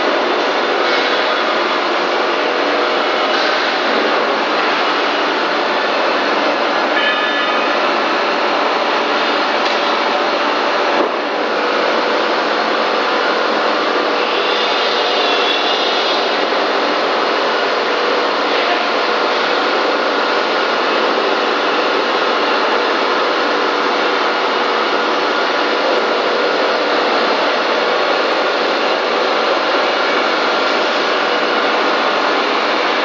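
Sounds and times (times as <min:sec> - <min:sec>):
faint steady machine whine: 0:00.0 - 0:33.0.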